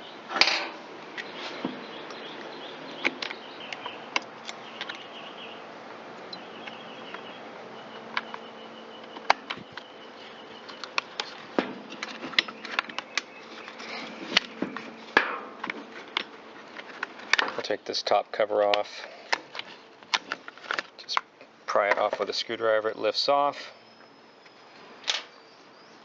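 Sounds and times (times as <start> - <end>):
faint buzzing whine: 0.0 - 26.0.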